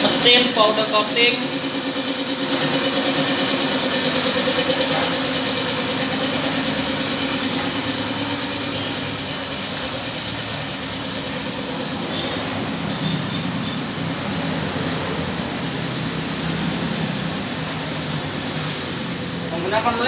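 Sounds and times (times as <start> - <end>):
air compressor hissing hum: 0.0 - 20.0.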